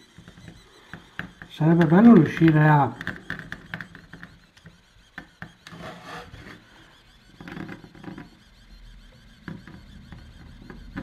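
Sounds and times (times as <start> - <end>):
pen nozzle scraping plastic: 0.0 - 11.0.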